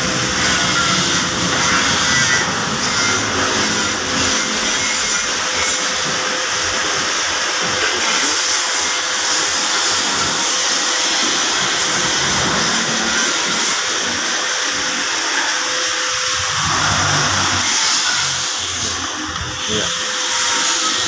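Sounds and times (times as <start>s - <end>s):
power tool whirring: 0.0s - 21.0s.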